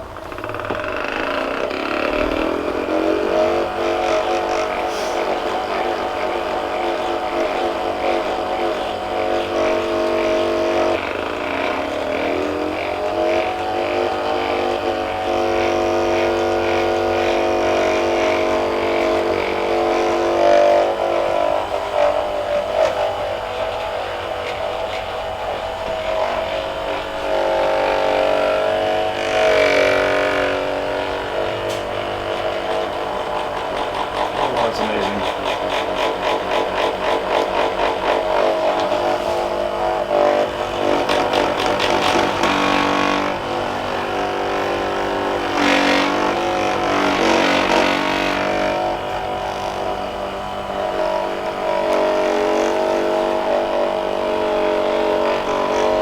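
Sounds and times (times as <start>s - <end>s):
electric massager motor hum: 0.0s - 56.0s.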